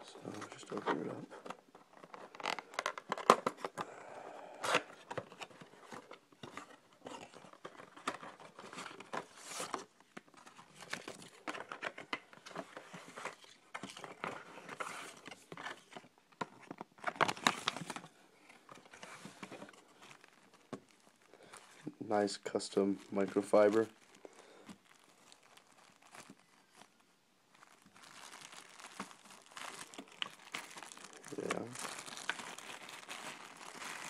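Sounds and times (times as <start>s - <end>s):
packaging rustling and crinkling: 0.0s - 34.0s.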